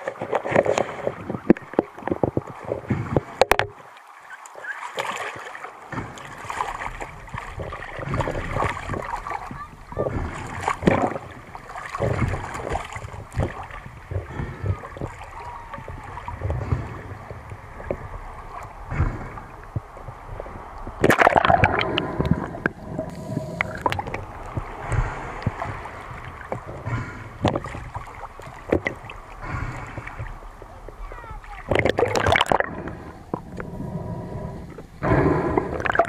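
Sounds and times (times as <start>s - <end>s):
sea water splashing: 0.0s - 36.0s.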